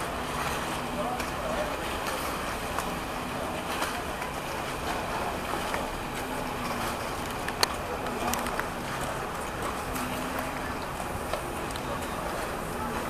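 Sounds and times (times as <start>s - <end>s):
boat engine running: 0.0s - 13.0s
water wash: 0.0s - 13.0s
wind: 0.0s - 13.0s.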